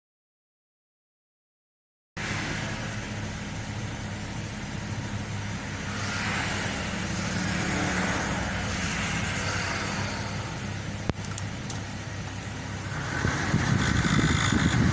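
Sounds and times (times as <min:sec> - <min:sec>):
car ac blower fan: 0:02.2 - 0:14.9
engine low hum: 0:02.2 - 0:14.9.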